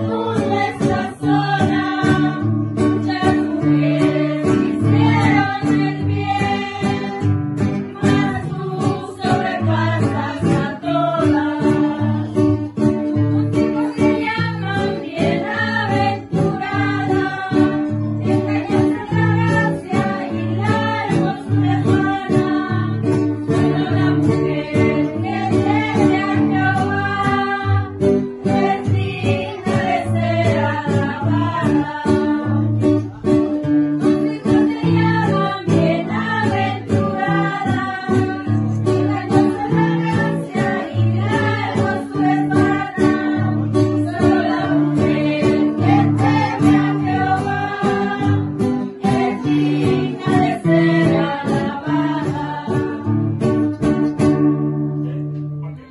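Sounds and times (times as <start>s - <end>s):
women singing together: 0.0s - 54.1s
strummed acoustic guitars: 0.0s - 55.9s.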